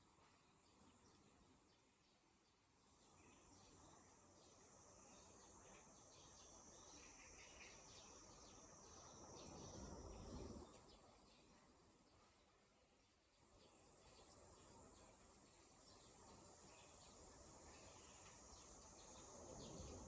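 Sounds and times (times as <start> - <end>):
insect drone: 0.0 - 20.0
bird chirps: 0.2 - 20.0.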